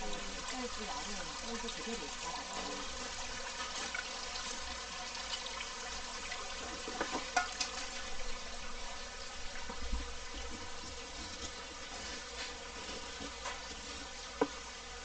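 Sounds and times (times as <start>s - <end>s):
water running: 0.0s - 15.0s.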